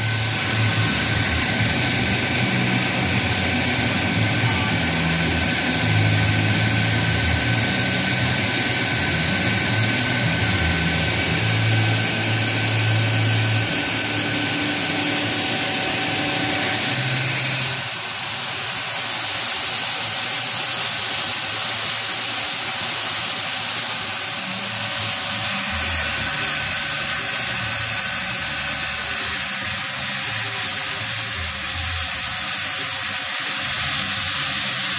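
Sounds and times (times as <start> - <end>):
coolant spray hiss: 0.0 - 34.9
lathe running: 0.0 - 34.9.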